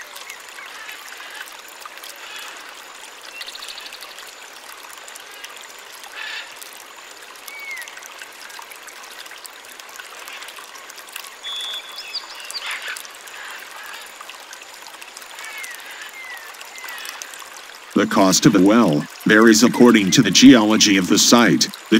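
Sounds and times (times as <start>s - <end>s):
water trickling and splashing: 0.0s - 21.9s.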